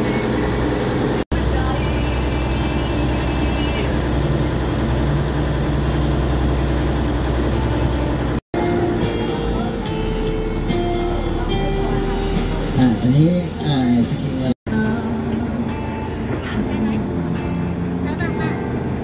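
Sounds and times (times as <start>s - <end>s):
boat engine droning: 0.0s - 19.0s
higher tones: 0.0s - 19.0s.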